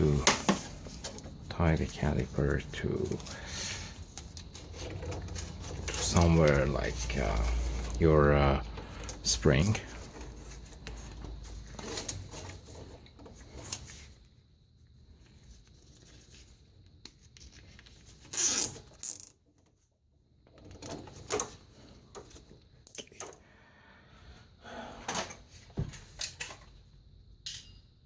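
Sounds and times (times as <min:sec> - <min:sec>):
rustling and scraping: 0:00.0 - 0:22.7.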